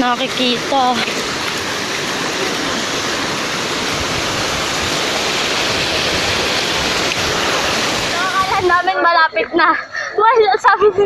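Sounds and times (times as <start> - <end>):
rushing river water: 0.0 - 10.7.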